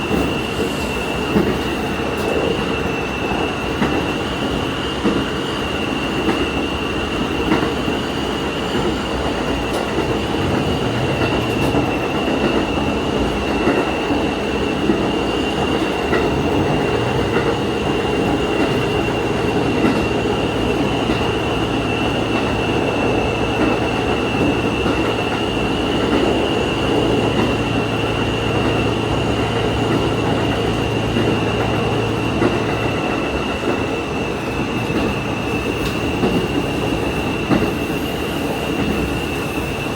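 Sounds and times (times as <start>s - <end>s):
railcar engine drone: 0.0s - 39.9s
wheels running on rail: 0.0s - 39.9s.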